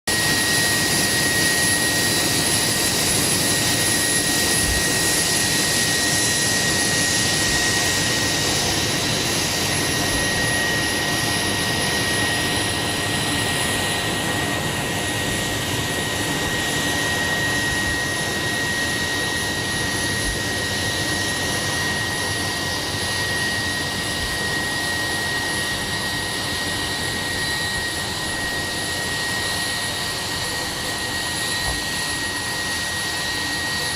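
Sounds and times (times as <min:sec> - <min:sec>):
turbine rushing with high whine: 0:00.1 - 0:33.9.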